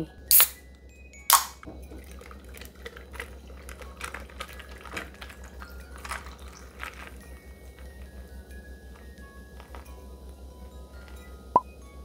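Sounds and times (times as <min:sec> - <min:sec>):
soda pouring into glass: 0:01.3 - 0:11.6
fizzing and crackling: 0:01.3 - 0:12.0.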